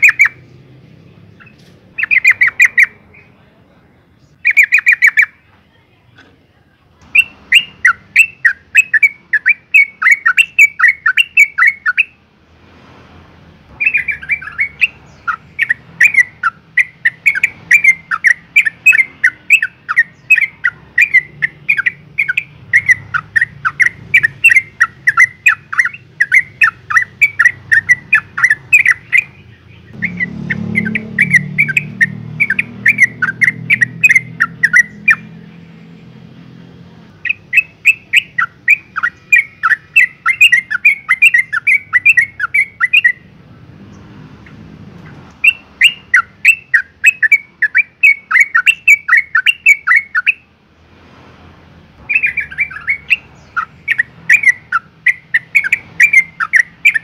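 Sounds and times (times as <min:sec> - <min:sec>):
bulbul calling rapid notes: 0:00.0 - 0:00.5, 0:01.3 - 0:03.4, 0:04.3 - 0:05.4, 0:07.0 - 0:12.2, 0:13.7 - 0:35.8, 0:37.2 - 0:43.4, 0:44.4 - 0:50.6, 0:52.0 - 0:57.0.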